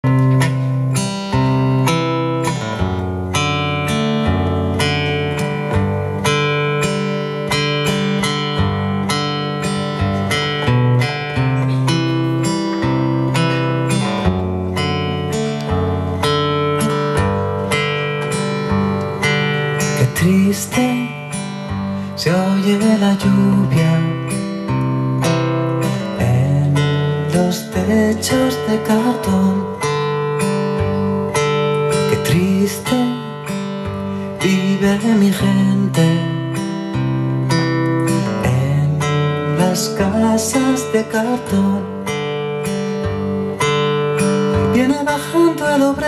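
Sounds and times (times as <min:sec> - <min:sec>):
acoustic guitar playing: 0:00.0 - 0:46.0.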